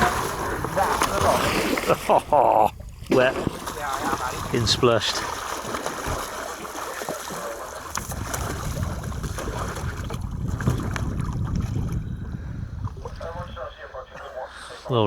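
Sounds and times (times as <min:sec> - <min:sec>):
wind and water rushing: 0:00.0 - 0:14.1.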